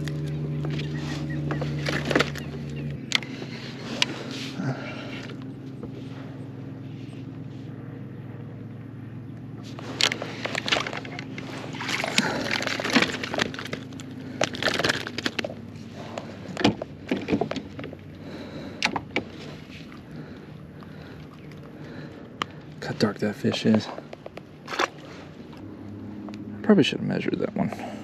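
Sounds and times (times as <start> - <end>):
water splashing and sloshing: 0.0 - 7.2, 9.6 - 26.3.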